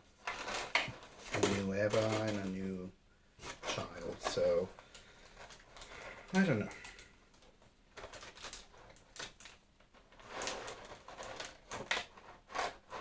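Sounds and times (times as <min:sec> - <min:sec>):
plastic packaging crinkling: 0:00.2 - 0:02.8, 0:03.5 - 0:13.0.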